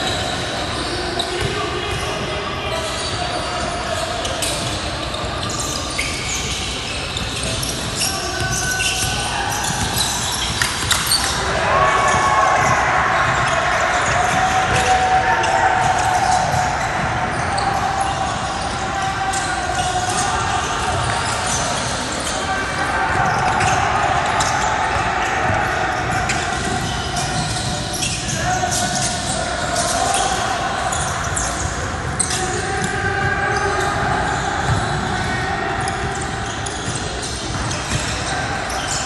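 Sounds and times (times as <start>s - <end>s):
players and spectators calling out: 0.0s - 39.0s
shoe squeaks: 0.0s - 39.0s.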